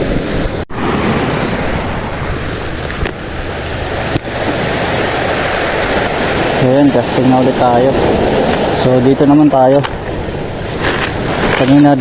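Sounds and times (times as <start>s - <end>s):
sea surf washing: 0.0s - 12.0s
wind on microphone: 0.0s - 12.0s.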